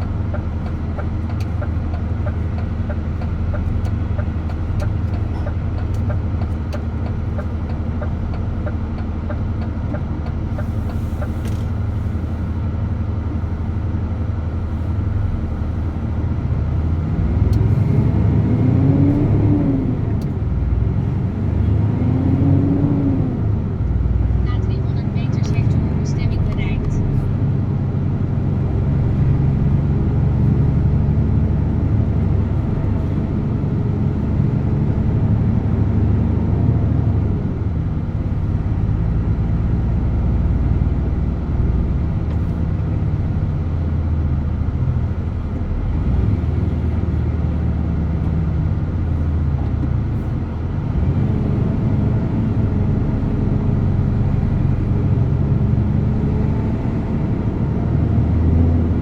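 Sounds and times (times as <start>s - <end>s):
truck diesel engine drone: 0.0s - 59.0s.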